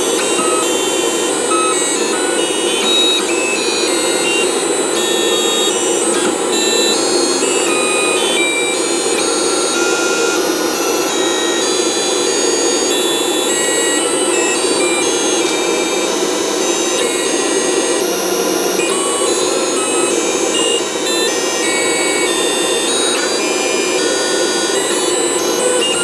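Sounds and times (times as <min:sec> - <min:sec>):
stepper motors whining: 0:00.0 - 0:26.0.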